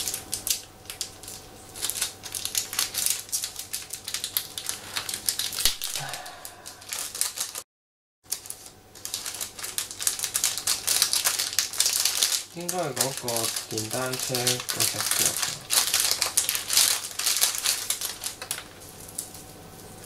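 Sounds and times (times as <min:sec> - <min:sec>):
plastic bag crinkling: 0:00.0 - 0:07.6, 0:08.3 - 0:20.0.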